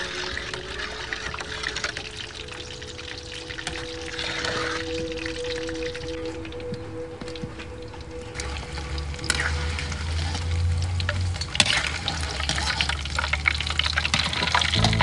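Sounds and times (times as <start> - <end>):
fish deep-frying in oil: 0.0 - 6.6, 8.0 - 15.0.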